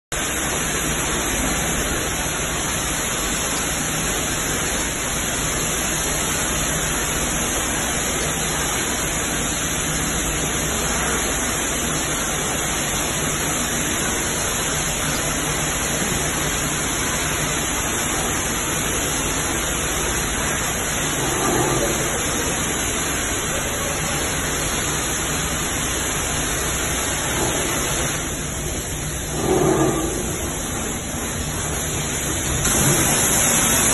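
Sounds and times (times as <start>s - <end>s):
high-pressure water jet hissing: 0.2s - 33.9s.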